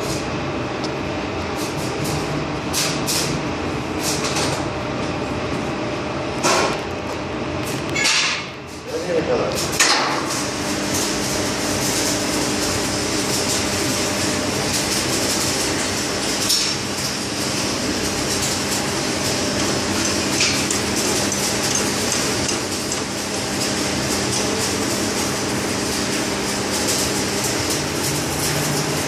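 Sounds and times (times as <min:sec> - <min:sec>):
arc welding crackling: 0:00.0 - 0:05.4, 0:06.2 - 0:29.0
machinery hum: 0:00.0 - 0:29.0.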